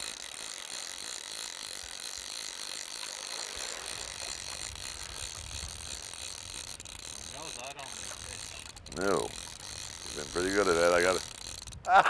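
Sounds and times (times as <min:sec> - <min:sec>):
fishing reel drag ratcheting: 0:00.0 - 0:12.0.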